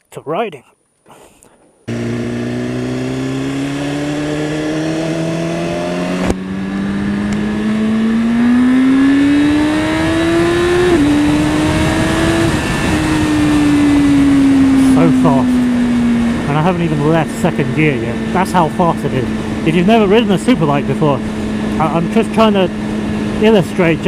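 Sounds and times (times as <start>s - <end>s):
motorcycle engine accelerating: 1.9s - 24.0s.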